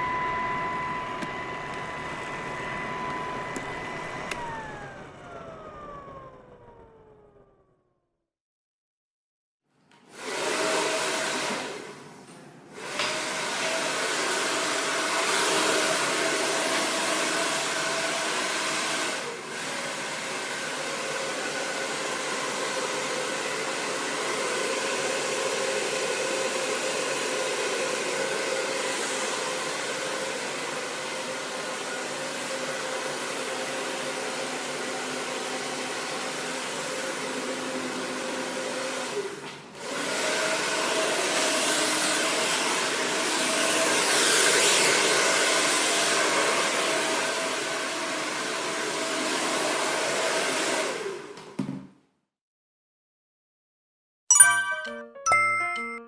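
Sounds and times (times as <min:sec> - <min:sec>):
hair dryer blowing: 0:00.0 - 0:07.7, 0:10.1 - 0:51.6.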